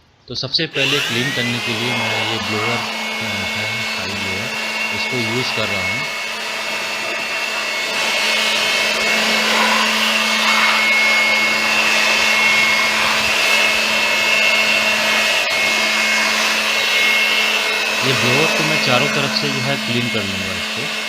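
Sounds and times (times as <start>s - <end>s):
electric air blower whirring: 0.7s - 21.0s.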